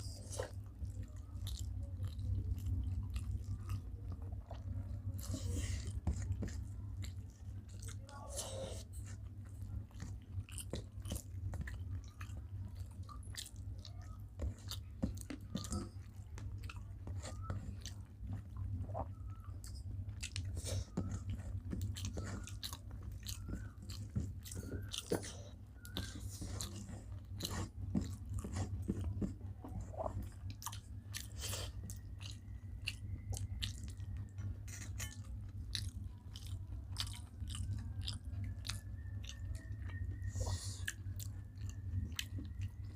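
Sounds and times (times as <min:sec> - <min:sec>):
chewing food: 0:00.0 - 0:42.9
steady low hum: 0:00.0 - 0:42.9.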